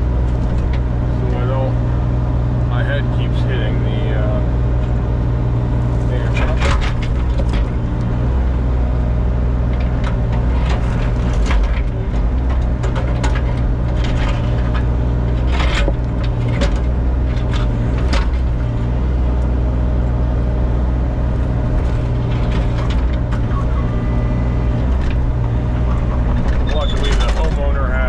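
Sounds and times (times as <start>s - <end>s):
paving cracking and scraping: 0.0s - 1.7s, 3.6s - 8.5s, 9.6s - 19.5s, 21.0s - 28.0s
excavator diesel engine running: 0.0s - 28.0s.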